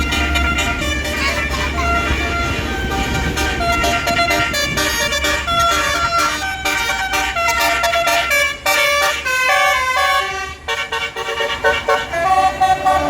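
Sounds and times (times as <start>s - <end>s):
air horns playing a tune: 0.0s - 13.0s.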